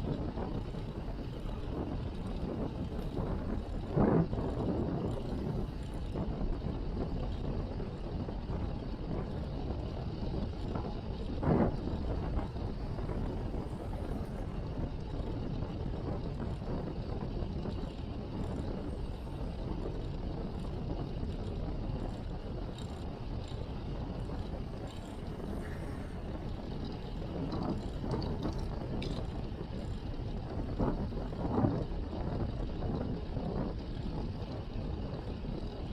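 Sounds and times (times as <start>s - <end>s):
road and tyre noise: 0.0s - 35.9s
wind rushing over microphone: 0.0s - 35.9s.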